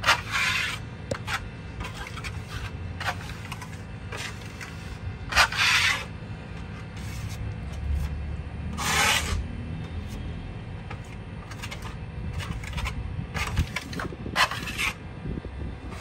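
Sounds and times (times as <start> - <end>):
trowel scraping plaster wall: 0.0 - 9.5, 11.0 - 15.1.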